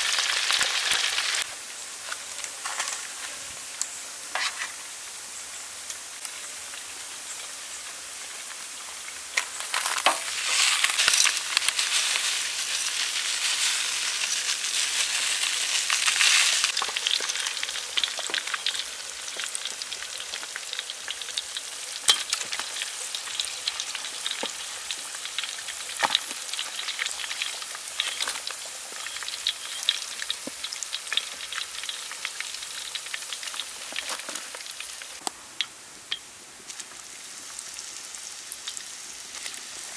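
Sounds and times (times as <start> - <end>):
shrimp sizzling in hot oil: 0.0 - 39.9.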